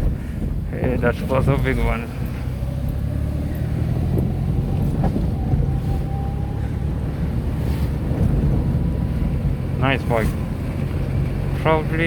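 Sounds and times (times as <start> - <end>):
car engine and road noise rumble: 0.0 - 12.0.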